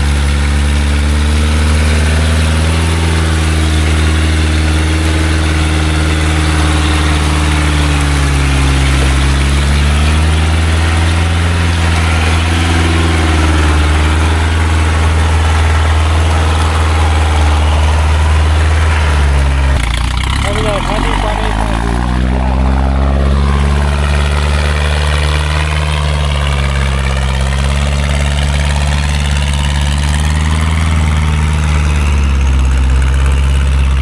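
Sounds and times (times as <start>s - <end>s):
truck engine running low: 0.0s - 34.0s.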